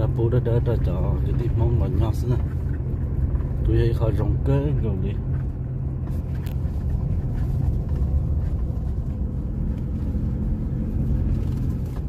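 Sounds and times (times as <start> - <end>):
car driving heard from cabin: 0.0 - 12.0.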